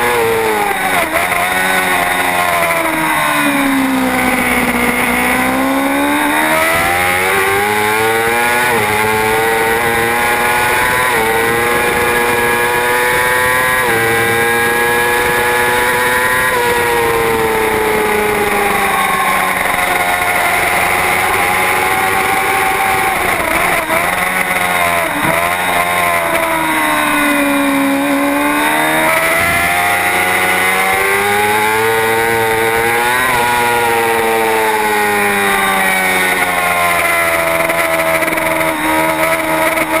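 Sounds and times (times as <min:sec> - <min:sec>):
racing motorcycle engine: 0:00.0 - 0:40.0.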